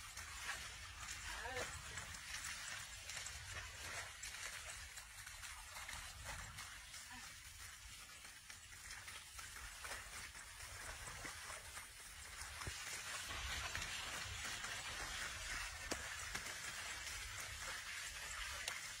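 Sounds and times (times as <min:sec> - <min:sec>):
hooves and plough splashing in mud: 0:00.0 - 0:19.0.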